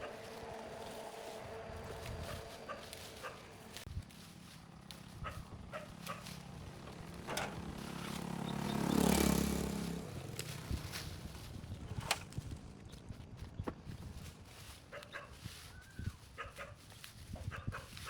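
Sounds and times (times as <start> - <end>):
vehicle engine passing by: 0.0 - 14.8.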